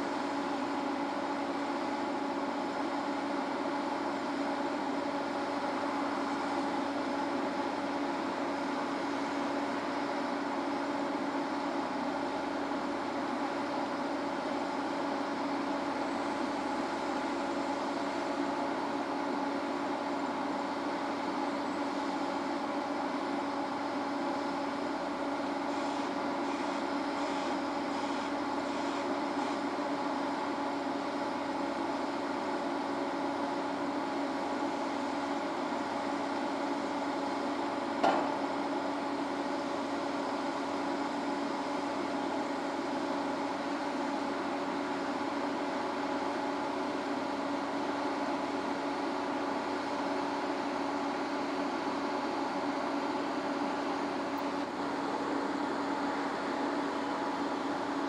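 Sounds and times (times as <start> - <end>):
drilling rig machine hum: 0.0 - 58.0.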